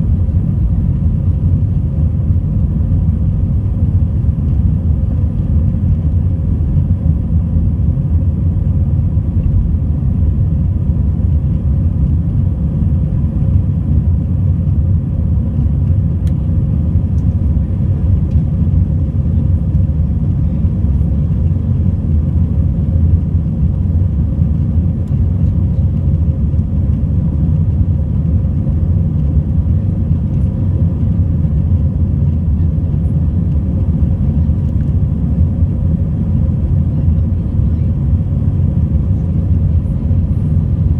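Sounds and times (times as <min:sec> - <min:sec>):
aircraft cabin engine rumble: 0:00.0 - 0:40.9.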